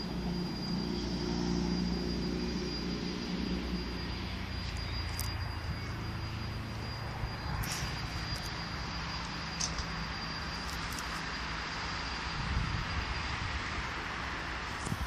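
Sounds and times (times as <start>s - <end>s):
train rumbling and humming: 0.0s - 15.0s.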